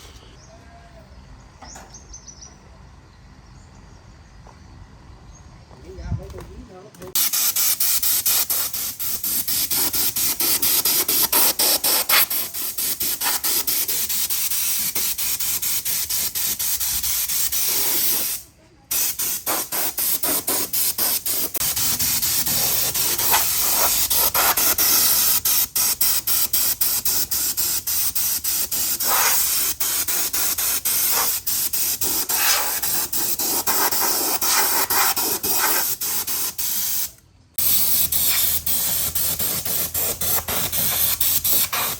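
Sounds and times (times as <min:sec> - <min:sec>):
high-pressure air jet hissing: 0:07.2 - 0:41.9.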